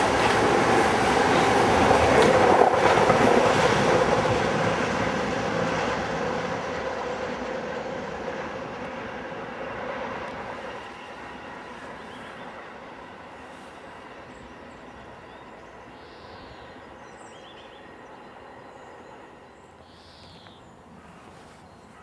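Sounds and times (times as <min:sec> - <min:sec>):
train passing: 0:00.0 - 0:22.0.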